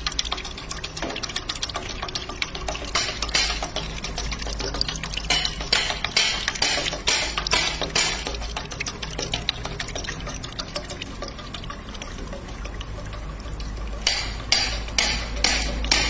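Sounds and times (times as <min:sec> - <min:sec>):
oil mill humming: 0:00.0 - 0:16.0
sharp ticks and clinks: 0:00.0 - 0:16.0.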